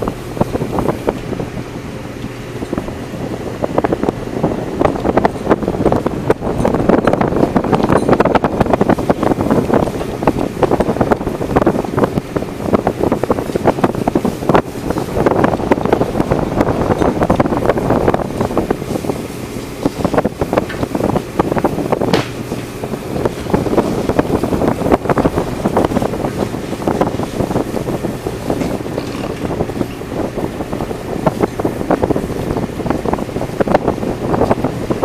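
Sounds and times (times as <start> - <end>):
faint low engine hum: 0.0 - 35.0
fishing vessel noise: 0.0 - 35.0
wind buffeting microphone: 0.0 - 35.0.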